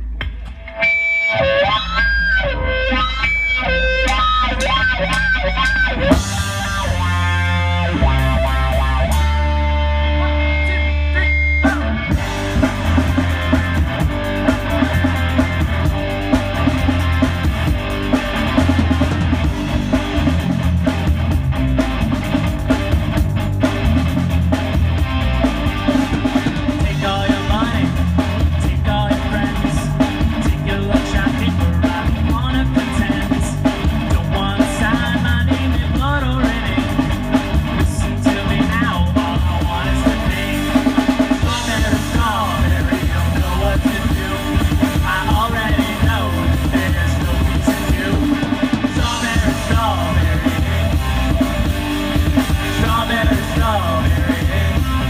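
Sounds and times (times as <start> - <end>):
electric guitar: 0.0 - 55.0
rock band playing: 0.0 - 55.0.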